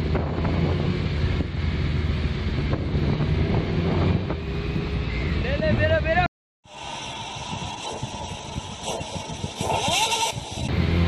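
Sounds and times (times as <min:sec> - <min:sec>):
wind noise on microphone: 0:00.0 - 0:06.1, 0:06.7 - 0:11.0
motorcycle engines cruising: 0:00.0 - 0:11.0.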